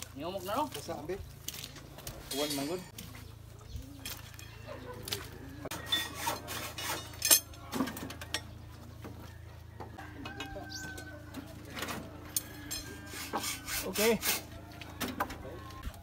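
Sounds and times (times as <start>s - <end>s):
wooden planks and steel scraping: 0.0s - 16.0s.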